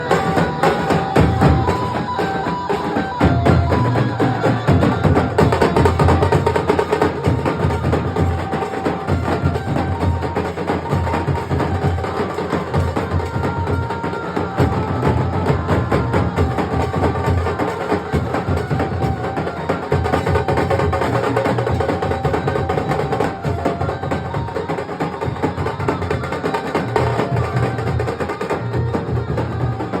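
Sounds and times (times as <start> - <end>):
drums playing a fast beat: 0.0 - 30.0.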